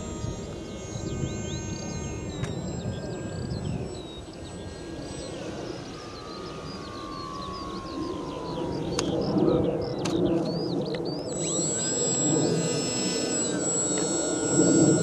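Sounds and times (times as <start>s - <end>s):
birds chirping: 0.0s - 15.0s
electric motor whining: 0.0s - 15.0s
sharp clicks: 0.0s - 15.0s.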